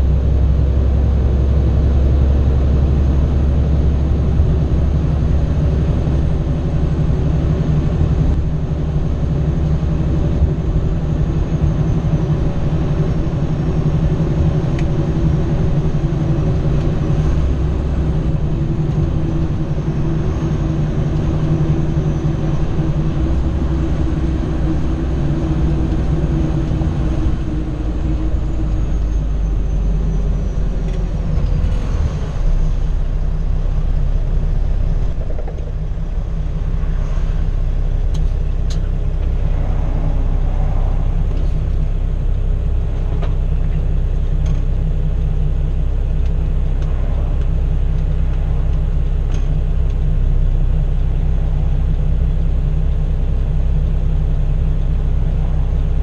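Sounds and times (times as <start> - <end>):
diesel truck engine rumble: 0.0 - 56.0
high engine tone: 0.0 - 56.0.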